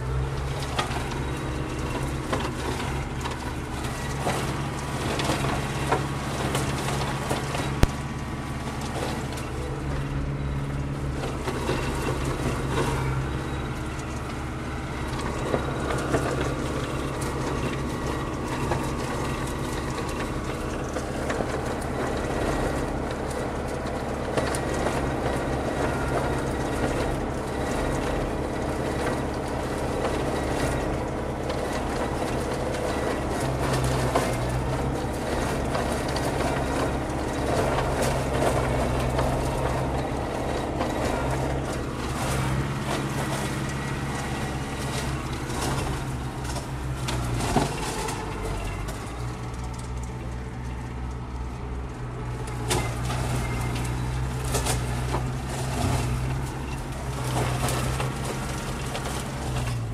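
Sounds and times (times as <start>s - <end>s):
tractor engine running: 0.0s - 59.9s
wood cracking and snapping: 10.9s - 51.3s, 52.0s - 59.9s.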